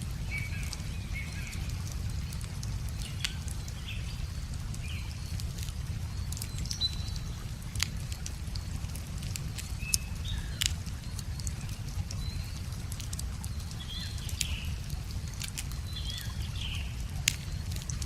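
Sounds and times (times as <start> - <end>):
river water flowing: 0.0 - 18.0
small birds chirping: 0.0 - 18.0
wood fire crackling: 0.0 - 18.0.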